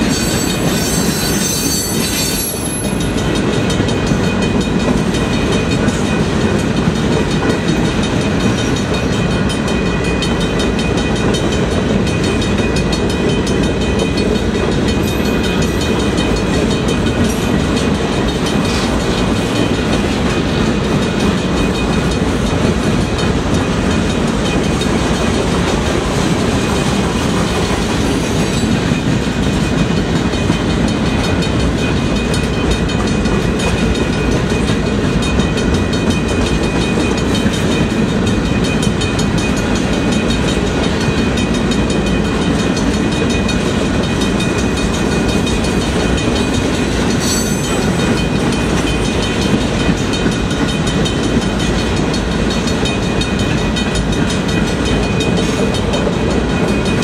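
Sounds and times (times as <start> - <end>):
clickety-clack at rail joints: 0.0 - 57.0
steel wheels rumbling on rail: 0.0 - 57.0.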